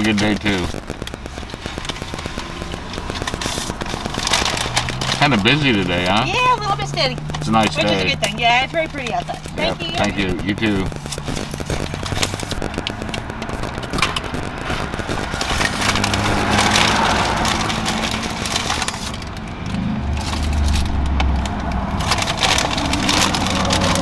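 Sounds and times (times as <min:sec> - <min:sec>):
car engine humming: 0:00.0 - 0:24.0
paper packaging crackling: 0:00.0 - 0:24.0.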